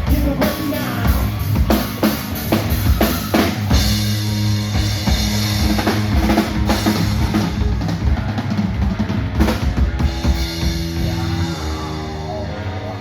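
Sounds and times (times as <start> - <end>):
drum kit kick and snare: 0.0 - 11.4
live band playing: 0.0 - 13.0.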